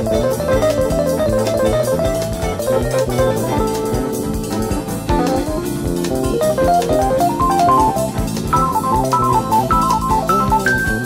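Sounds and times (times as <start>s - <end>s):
bass guitar: 0.0s - 11.0s
drum kit: 0.0s - 11.0s
guitar quick run of notes: 0.0s - 11.0s.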